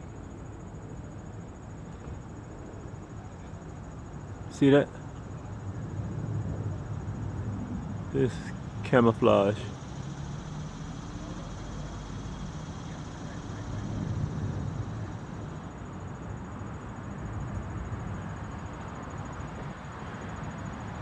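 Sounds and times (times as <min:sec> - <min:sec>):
city road traffic rumble: 0:00.0 - 0:21.0.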